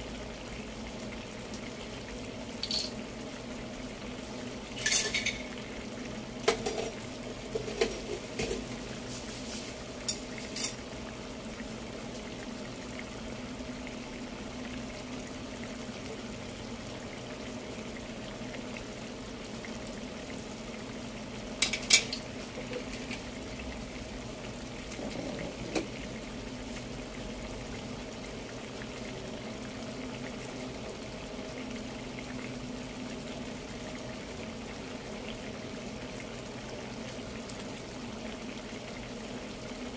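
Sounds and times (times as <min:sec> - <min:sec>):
food simmering and bubbling: 0:00.0 - 0:39.9.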